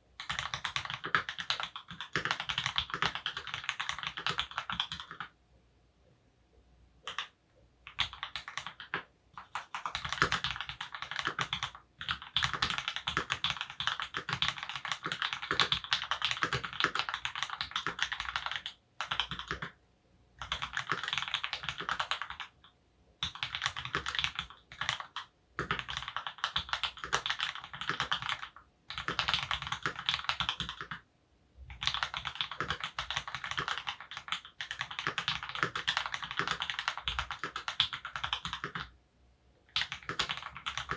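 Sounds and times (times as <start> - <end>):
mechanical keyboard typing: 0.2 - 5.4, 7.0 - 19.8, 20.4 - 31.0, 31.7 - 39.0, 39.7 - 40.9.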